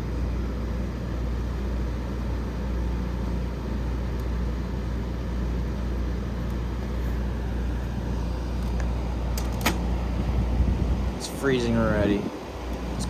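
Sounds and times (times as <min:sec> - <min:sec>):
air conditioner fan rushing: 0:00.0 - 0:13.0
low electrical hum: 0:00.0 - 0:13.0.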